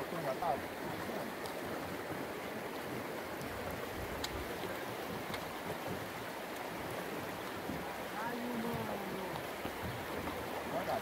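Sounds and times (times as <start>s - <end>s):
fast river water rushing: 0.0s - 11.0s.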